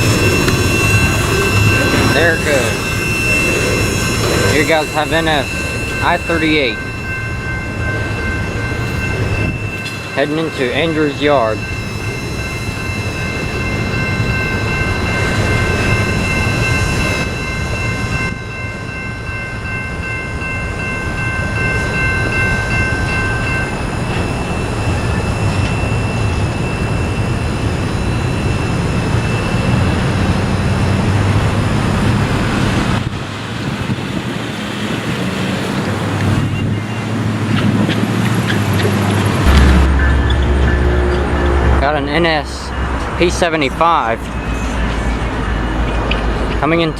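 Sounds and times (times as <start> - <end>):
high wheel squeal: 0.0 - 31.4, 33.6 - 46.8
freight train wheels rumbling: 0.0 - 46.9.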